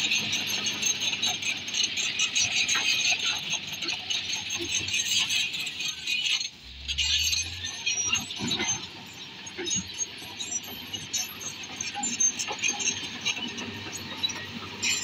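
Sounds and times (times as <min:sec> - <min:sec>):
bulldozer metallic clinking: 0:00.0 - 0:15.0.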